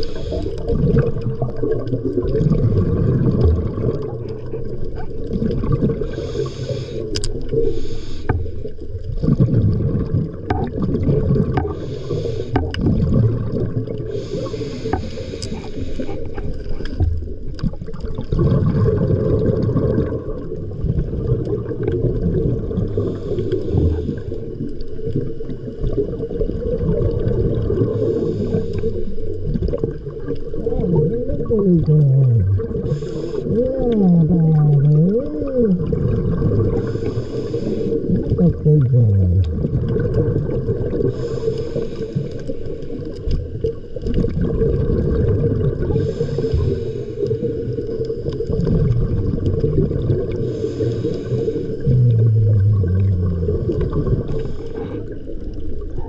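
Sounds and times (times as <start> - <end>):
diver breathing bubble bursts: 0.0 - 56.0
low underwater rumble: 0.0 - 56.0.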